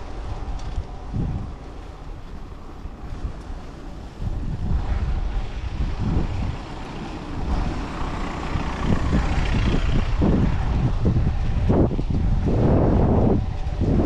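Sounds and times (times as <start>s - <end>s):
city road traffic: 0.0s - 14.0s
wind buffeting microphone: 0.0s - 14.0s.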